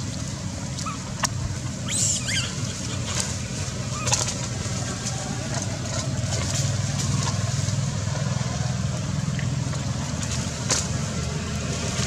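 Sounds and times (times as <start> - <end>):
vehicle engine running: 2.3 - 12.0.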